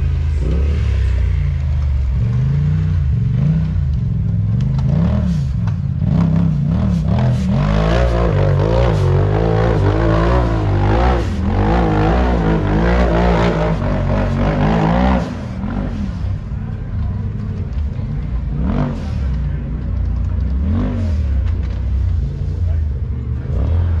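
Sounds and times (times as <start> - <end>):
utility vehicle engine revving: 0.0 - 24.0.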